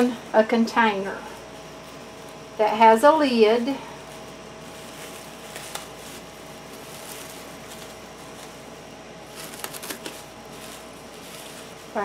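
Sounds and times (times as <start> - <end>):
plastic wrap crinkling: 0.0 - 12.0
room hiss: 0.0 - 12.0.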